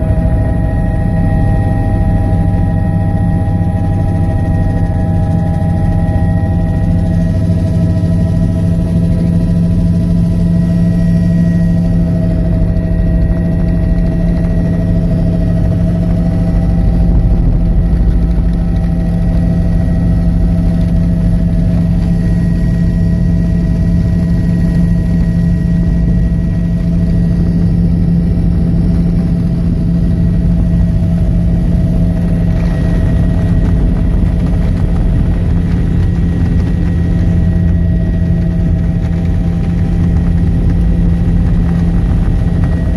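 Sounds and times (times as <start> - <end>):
helicopter engine and rotor drone: 0.0 - 42.9
whining tones: 0.0 - 42.9.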